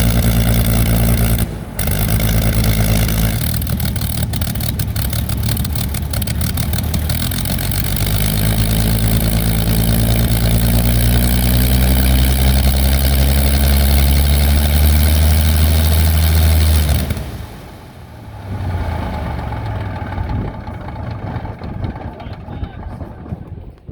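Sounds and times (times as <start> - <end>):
aircraft engine idling: 0.0 - 23.9.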